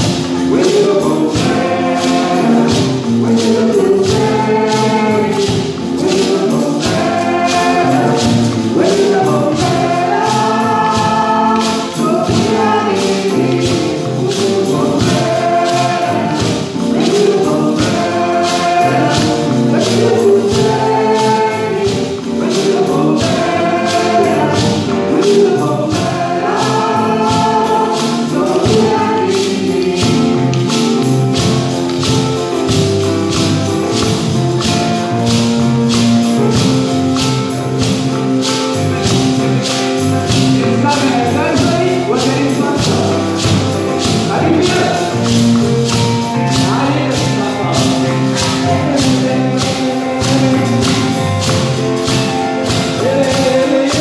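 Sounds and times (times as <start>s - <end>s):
drum kit: 0.0s - 54.0s
gourd shaker: 0.0s - 54.0s
hand drums: 0.0s - 54.0s
voices singing: 0.0s - 54.0s.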